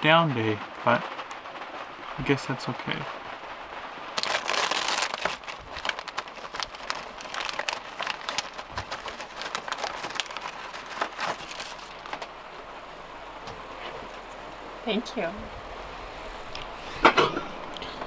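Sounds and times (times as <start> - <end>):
rain pattering on a boat roof: 0.0 - 18.0.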